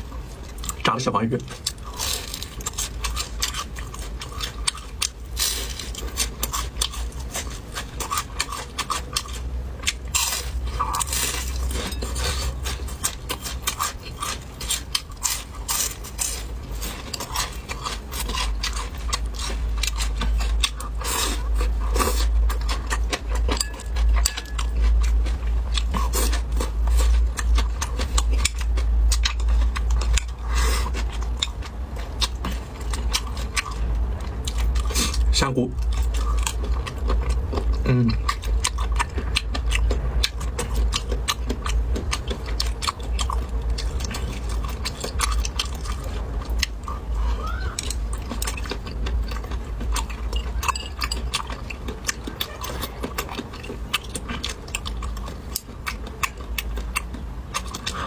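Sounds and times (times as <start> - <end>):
chewing and crunching fried fish: 0.0 - 58.0
low hum: 0.0 - 58.0.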